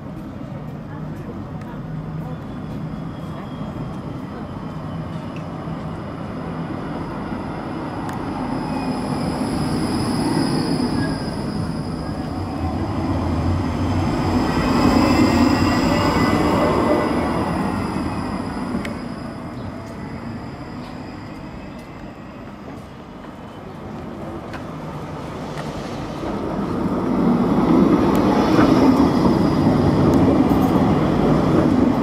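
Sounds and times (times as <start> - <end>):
tram wheels rumbling on rail: 0.0 - 32.0.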